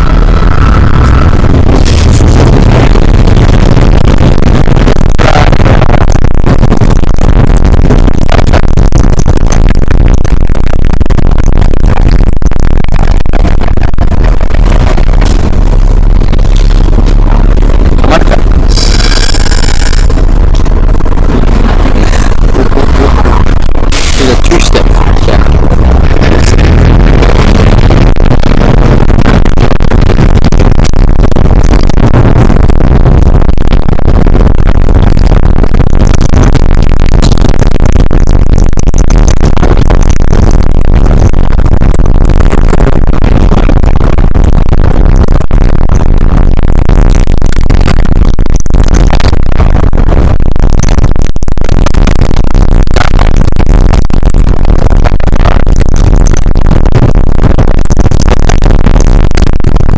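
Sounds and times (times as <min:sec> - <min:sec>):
harsh distorted electronic noise music: 0:00.0 - 0:59.9.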